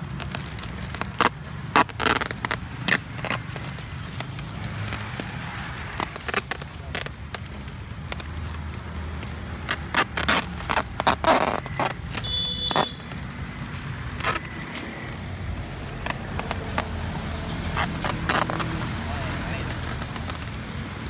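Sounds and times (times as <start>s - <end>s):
packing tape ripping off roll: 0.0s - 21.0s
plastic bags crinkling: 0.0s - 21.0s
road traffic rumble: 0.0s - 21.0s.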